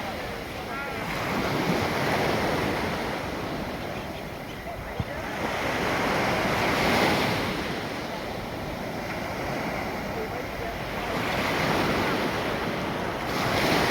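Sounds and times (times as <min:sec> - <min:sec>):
sea waves breaking on shore: 0:00.0 - 0:13.9.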